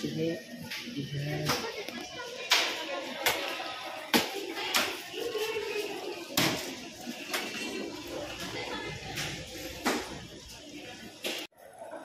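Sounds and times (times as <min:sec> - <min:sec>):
shop noise: 0:00.0 - 0:12.0.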